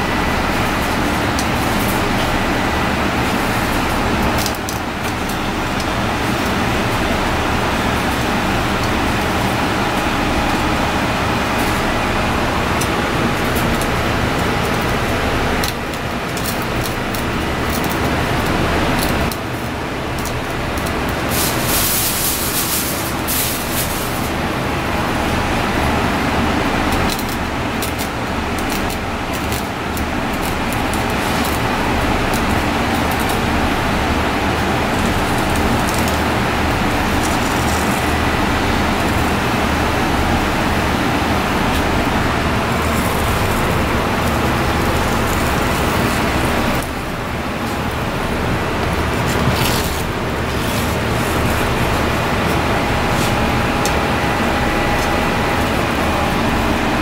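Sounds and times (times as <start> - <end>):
low hum background noise: 0.0 - 57.0.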